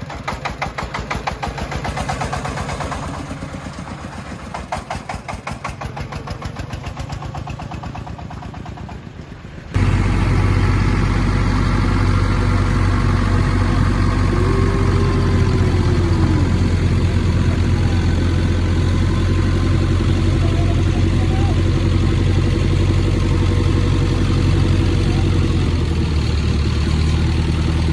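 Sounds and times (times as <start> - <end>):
tractor engine chugging: 0.0 - 27.9.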